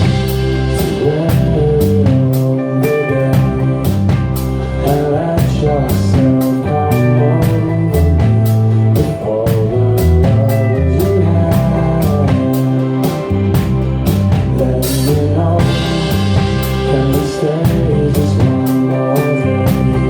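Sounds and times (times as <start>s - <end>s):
drum kit steady beat: 0.0s - 20.0s
live band playing: 0.0s - 20.0s.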